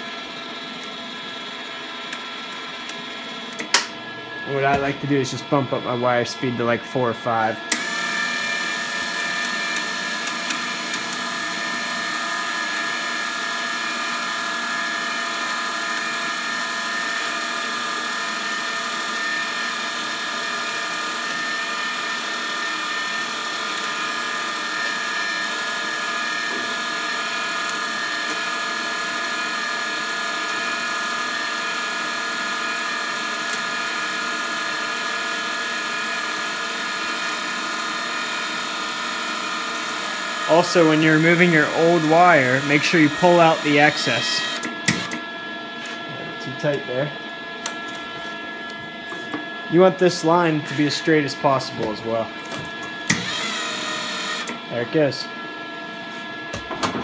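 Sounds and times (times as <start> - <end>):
wire feed motor whine: 0.0 - 57.0.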